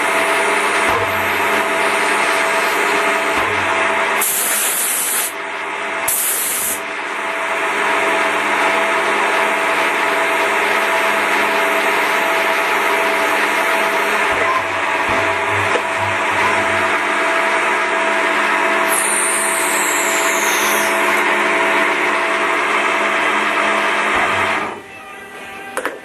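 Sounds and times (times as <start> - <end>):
lathe running with mechanical hum: 0.0 - 26.0.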